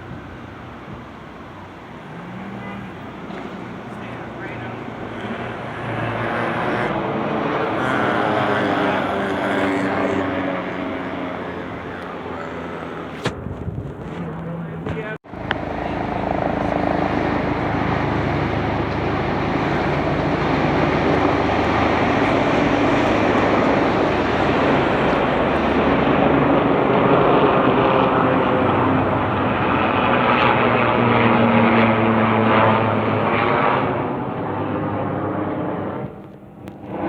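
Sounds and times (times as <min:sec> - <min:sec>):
aircraft engine drone: 0:00.0 - 0:37.0.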